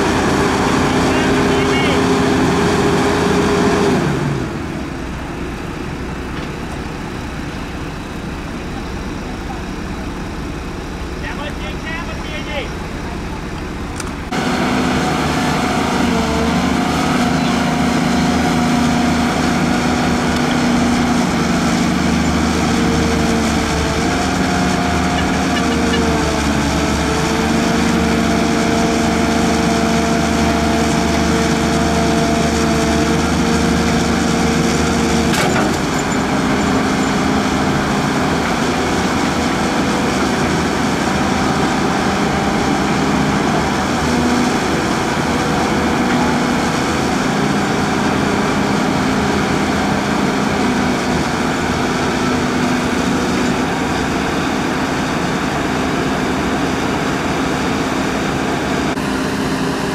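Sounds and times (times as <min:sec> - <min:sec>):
excavator diesel engines running: 0:00.0 - 0:59.9.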